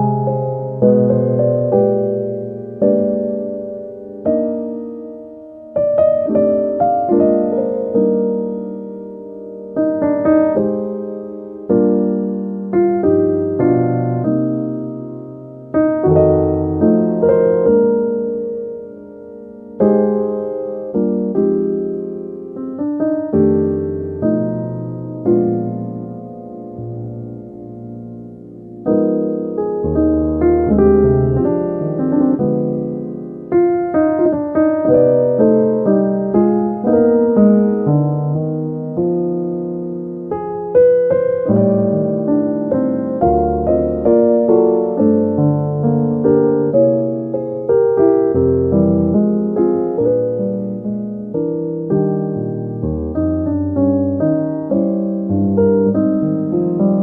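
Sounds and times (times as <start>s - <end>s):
slow piano music: 0.0s - 57.0s.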